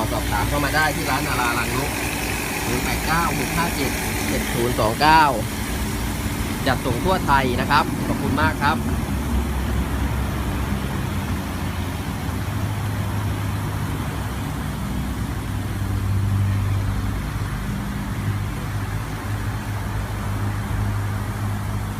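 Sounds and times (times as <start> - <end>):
humidifier motor hum: 0.0 - 21.9.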